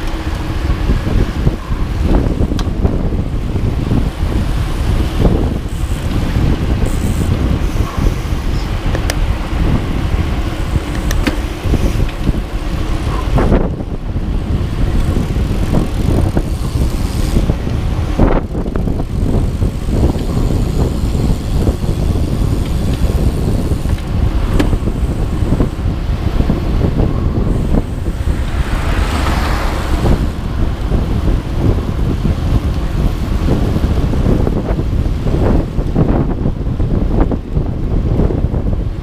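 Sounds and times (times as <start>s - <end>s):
moving vehicle rumble: 0.0s - 39.0s
wind buffeting microphone: 0.0s - 39.0s.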